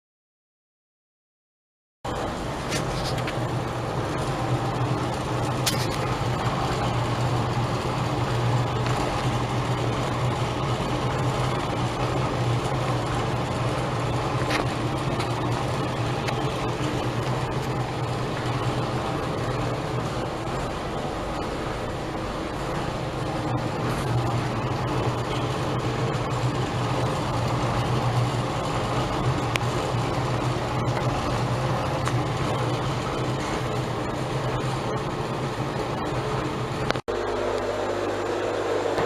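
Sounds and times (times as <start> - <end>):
exhaust fan whirring: 2.1 - 39.0.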